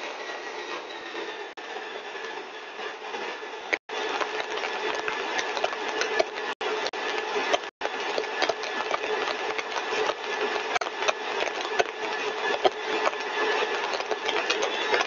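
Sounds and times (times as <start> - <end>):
compressor running with tone: 0.0 - 15.0.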